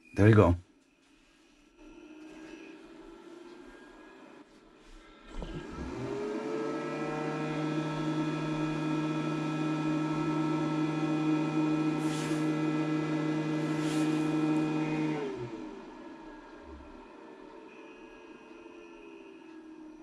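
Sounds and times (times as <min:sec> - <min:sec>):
cooling fan humming: 0:01.8 - 0:20.0.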